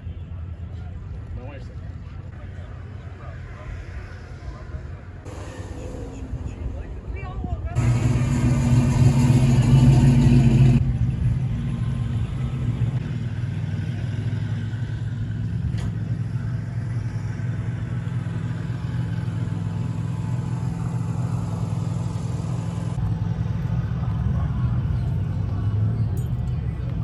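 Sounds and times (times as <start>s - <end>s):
vehicle engines rumbling: 0.0s - 27.0s.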